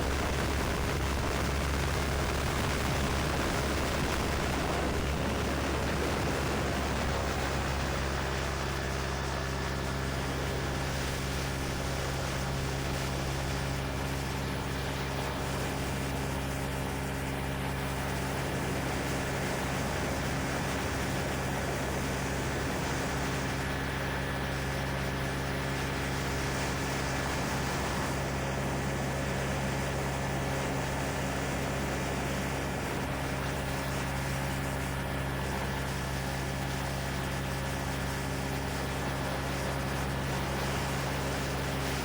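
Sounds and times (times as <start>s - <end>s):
aircraft engine running: 0.0s - 42.0s.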